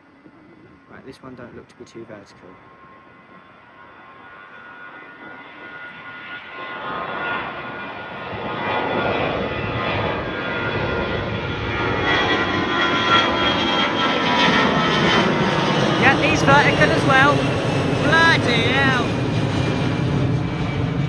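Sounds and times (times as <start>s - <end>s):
jet airliner engines: 0.0s - 21.0s.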